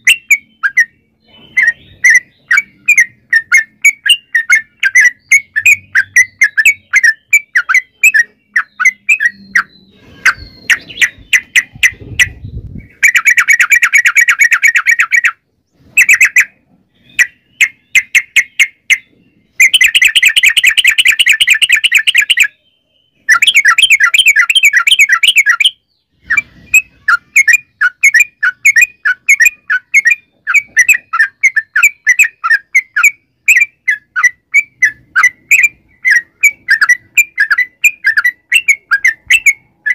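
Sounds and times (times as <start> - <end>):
bird singing with rolling trills: 0.0 - 39.9.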